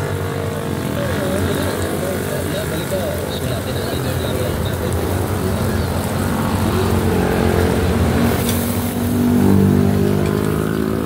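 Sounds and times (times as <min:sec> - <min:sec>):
gas burner roaring: 0:00.0 - 0:11.0
sharp crackle: 0:01.0 - 0:10.4
pan sizzling: 0:01.4 - 0:10.5.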